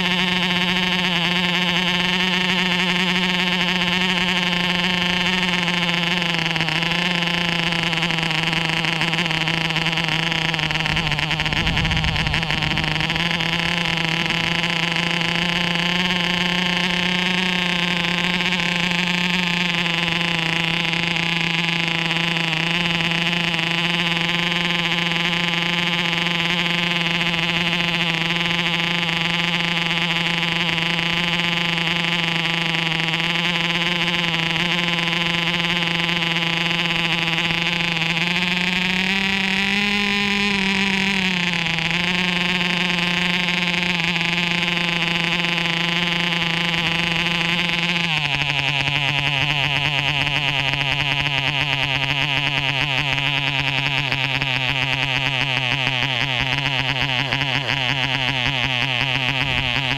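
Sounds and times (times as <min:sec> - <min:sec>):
model airplane engine buzzing: 0:00.0 - 0:59.9.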